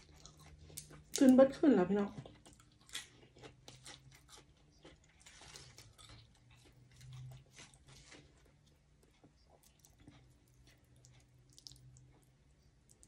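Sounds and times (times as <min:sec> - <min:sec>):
chewing herb leaves: 0:00.0 - 0:13.0.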